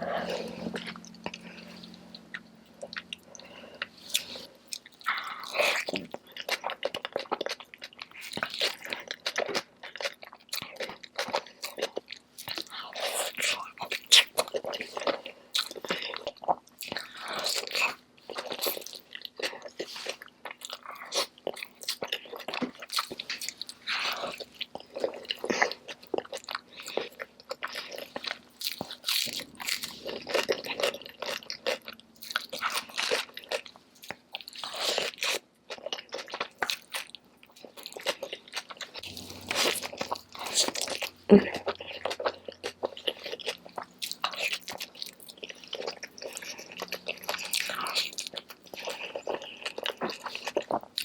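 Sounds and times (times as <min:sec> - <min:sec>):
person chewing food: 0:00.0 - 0:51.0.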